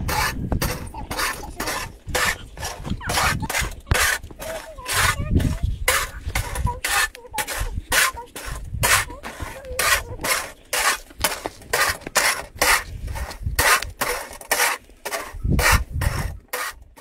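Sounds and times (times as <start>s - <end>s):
metal spatula scraping iron pan: 0.0s - 17.0s.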